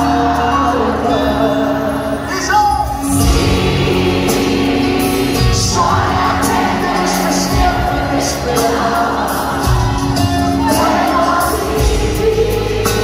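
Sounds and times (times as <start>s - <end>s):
live band playing a ballad: 0.0s - 13.0s.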